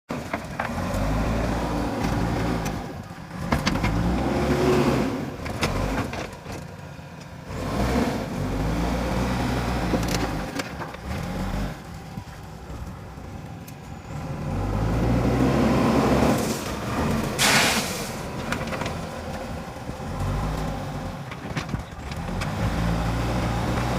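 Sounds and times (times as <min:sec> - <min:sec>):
diesel engine working: 0:00.1 - 0:23.9.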